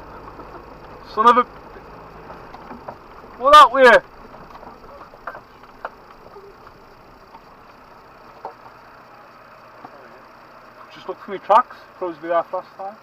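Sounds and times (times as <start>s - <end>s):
off-road vehicle rumble from cab: 0.0s - 13.0s.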